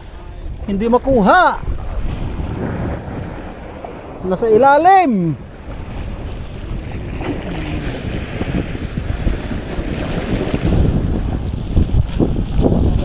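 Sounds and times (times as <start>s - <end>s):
sea water washing among rocks: 0.0s - 13.0s
wind buffeting microphone: 0.0s - 13.0s.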